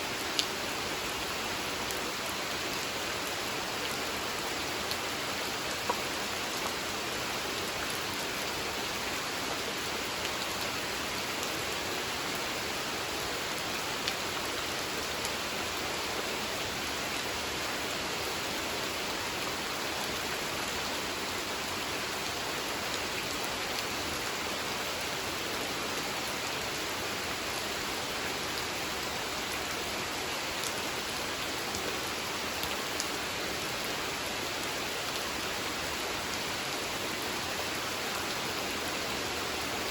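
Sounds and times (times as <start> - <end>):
rain falling on a pond: 0.0 - 39.9.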